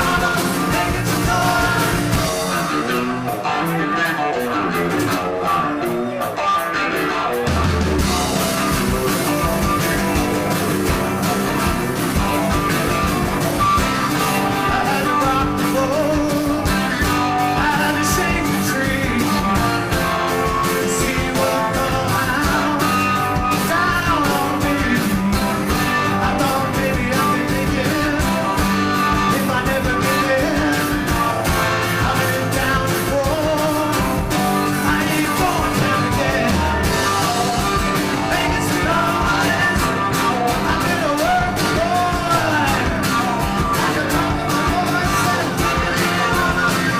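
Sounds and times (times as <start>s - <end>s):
rock music: 0.0s - 46.9s.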